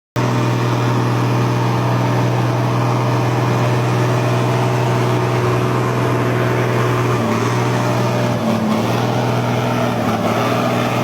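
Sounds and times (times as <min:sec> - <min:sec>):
tractor engine running: 0:00.2 - 0:11.0.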